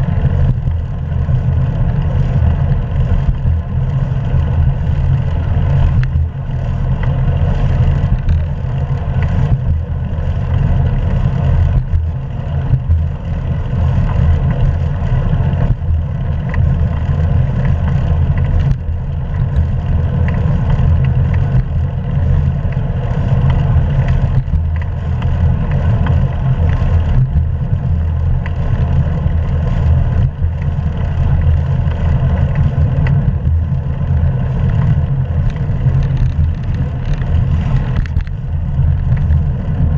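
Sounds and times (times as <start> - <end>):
bicycle tyre and road noise: 0.0 - 39.9
wind buffeting microphone: 0.0 - 39.9.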